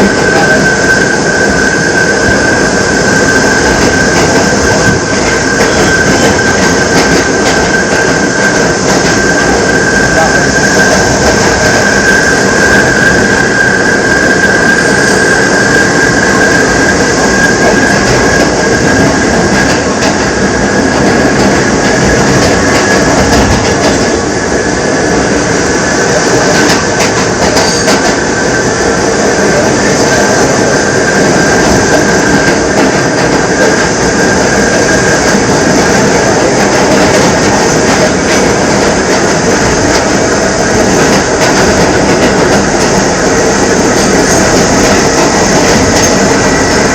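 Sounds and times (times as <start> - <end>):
steel wheels rumbling on rails: 0.0 - 46.9
subway motor howl: 0.0 - 46.9.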